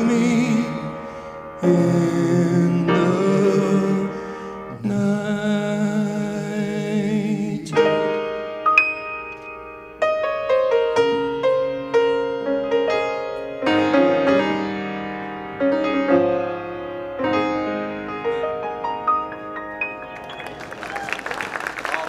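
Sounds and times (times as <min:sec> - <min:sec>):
grand piano chords and notes: 0:00.0 - 0:22.0.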